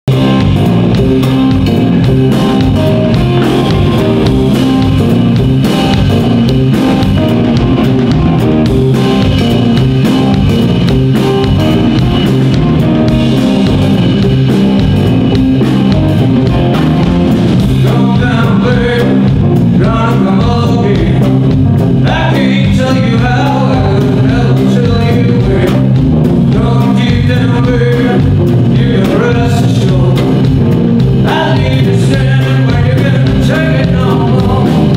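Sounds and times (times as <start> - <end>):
blues-rock band playing: 0.1 - 34.9
wavering guitar lead: 0.1 - 34.9.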